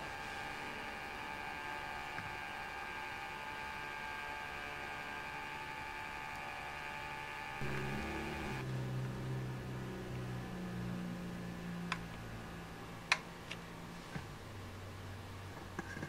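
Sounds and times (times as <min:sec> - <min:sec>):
low hum: 0:00.0 - 0:13.1.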